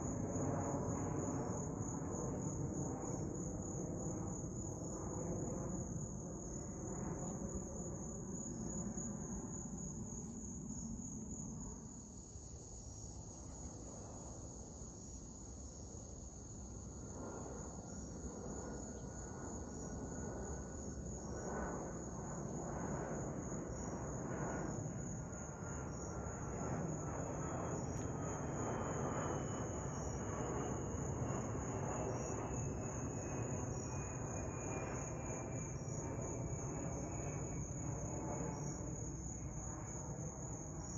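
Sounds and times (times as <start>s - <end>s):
faint jet whine: 0.0s - 40.9s
insects chorus: 0.0s - 40.9s
jet airliner rumble overhead: 0.0s - 40.9s.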